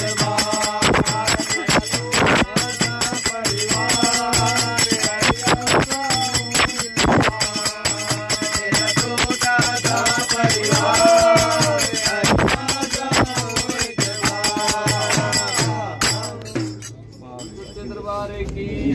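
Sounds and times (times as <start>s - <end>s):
frame drum beat: 0.0s - 16.9s
men singing in chorus: 0.0s - 18.9s.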